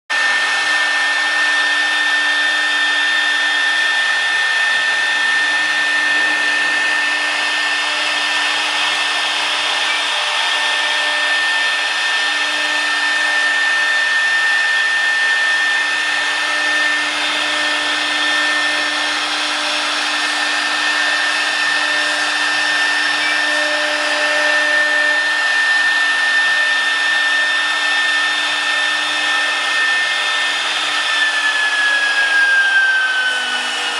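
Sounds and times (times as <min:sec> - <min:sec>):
router spindle high whine: 0:00.1 - 0:33.9.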